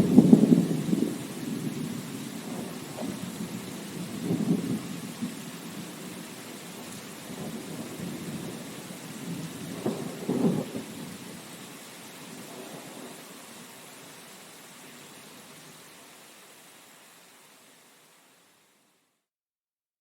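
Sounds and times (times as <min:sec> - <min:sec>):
steady rain hiss: 0:00.0 - 0:19.3.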